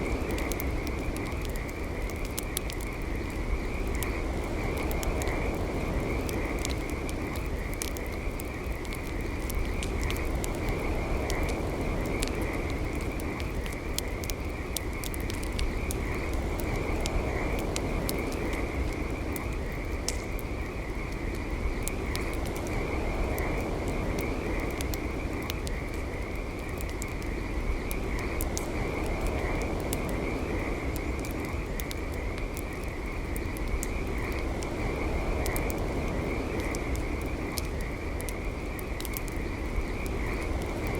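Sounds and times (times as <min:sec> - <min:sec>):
campfire crackling and popping: 0:00.0 - 0:40.9
frogs trilling: 0:00.0 - 0:40.9.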